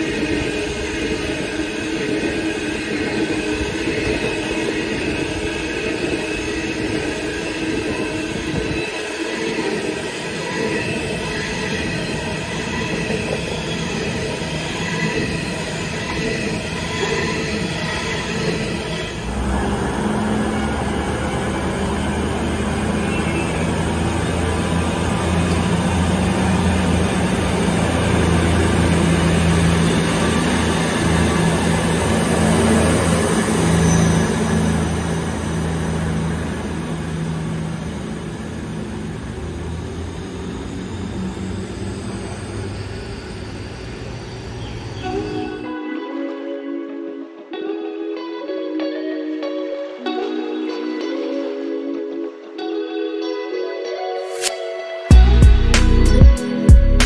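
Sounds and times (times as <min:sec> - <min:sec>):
train running past: 0:00.0 - 0:53.0.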